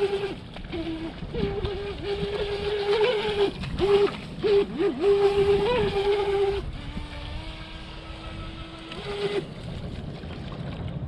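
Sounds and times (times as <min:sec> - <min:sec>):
electric motor high whine: 0:00.0 - 0:09.6
boat wake hiss: 0:00.0 - 0:10.0.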